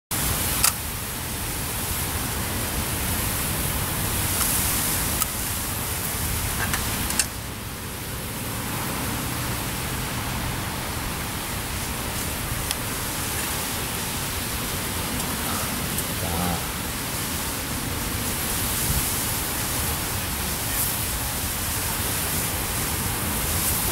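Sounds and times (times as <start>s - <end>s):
wind buffeting microphone: 0.1s - 23.9s.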